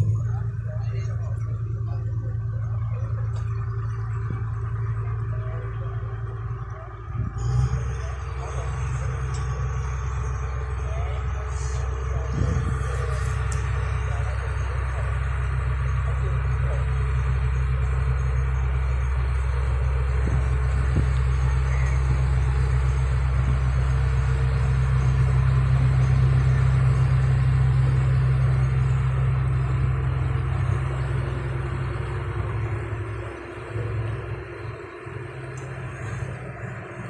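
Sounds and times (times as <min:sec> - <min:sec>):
heavy engine droning: 0:00.0 - 0:37.0.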